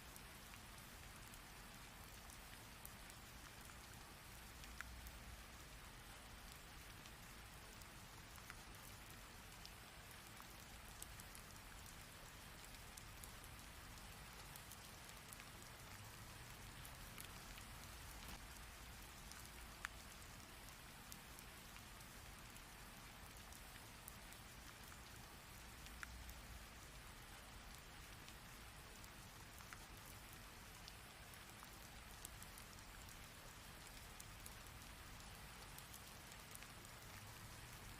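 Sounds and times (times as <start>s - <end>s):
faint steady rain: 0.0s - 37.9s.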